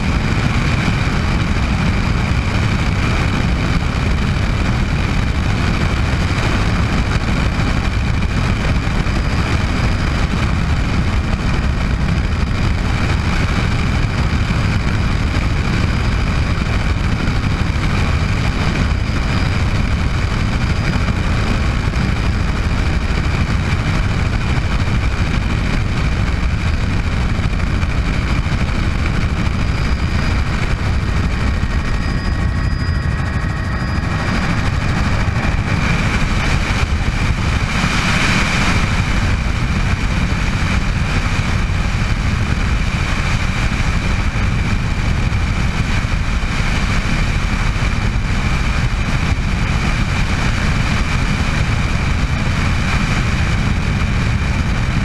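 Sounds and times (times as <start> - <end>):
helicopter rotor and engine rumble: 0.0 - 55.0
high turbine whine: 0.0 - 55.0.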